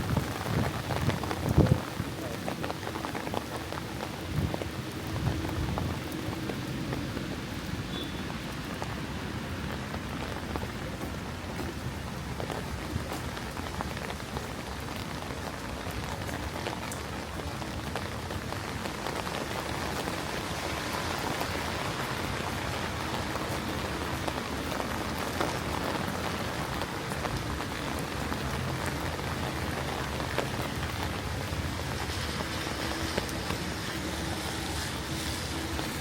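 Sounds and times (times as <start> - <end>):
steady rain pattering: 0.0 - 36.0.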